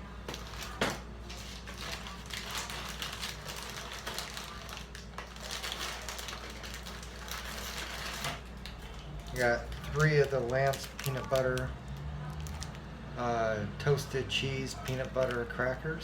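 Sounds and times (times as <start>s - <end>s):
plastic wrappers crinkling: 0.3s - 13.0s, 14.4s - 16.0s.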